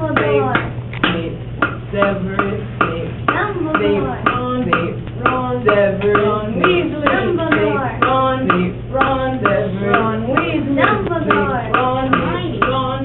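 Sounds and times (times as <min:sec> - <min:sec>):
young voices chanting a cappella: 0:00.0 - 0:13.0.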